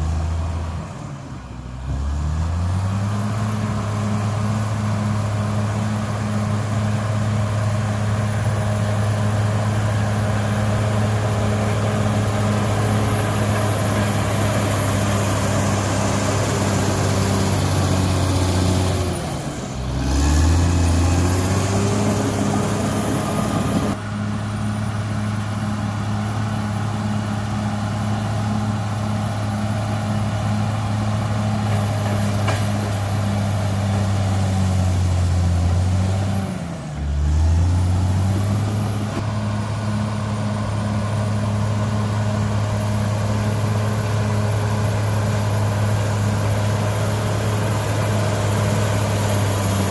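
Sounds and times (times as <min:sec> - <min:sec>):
bulldozer diesel engine: 0:00.0 - 0:49.9.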